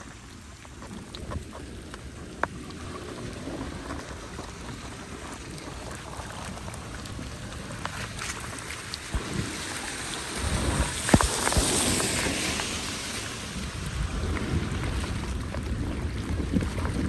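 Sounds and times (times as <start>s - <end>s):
small ticks and splashes: 0.0s - 17.0s
water noise: 0.0s - 17.0s.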